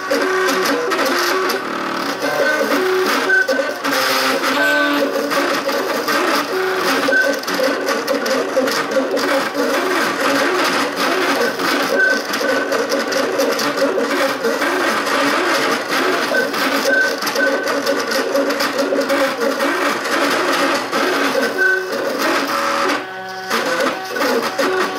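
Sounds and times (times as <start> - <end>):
stepper motors whirring: 0.0 - 24.9.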